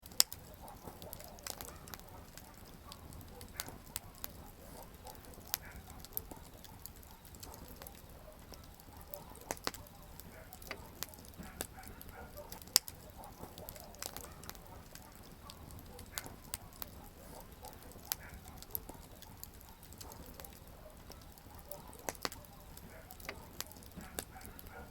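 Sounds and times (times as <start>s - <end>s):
campfire pops and snaps: 0.0s - 24.9s
rush of flames: 0.0s - 24.9s.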